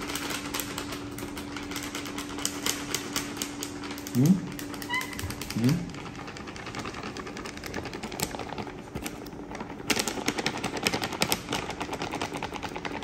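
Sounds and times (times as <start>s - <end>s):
plastic packet crinkling: 0.0s - 13.0s.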